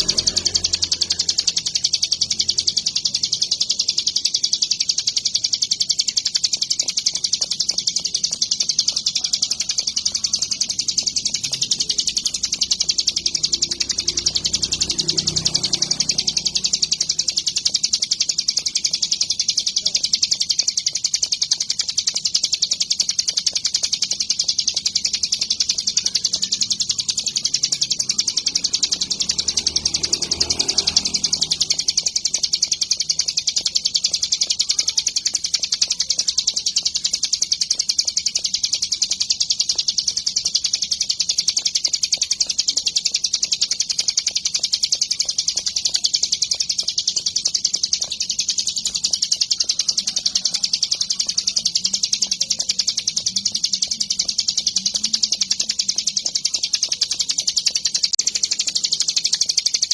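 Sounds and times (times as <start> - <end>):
songbird fast high chirps: 0.0 - 59.9.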